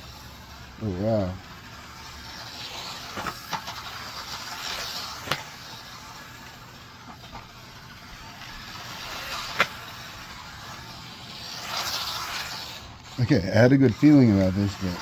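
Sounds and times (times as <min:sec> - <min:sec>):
rc truck motor hissing: 0:00.0 - 0:15.0.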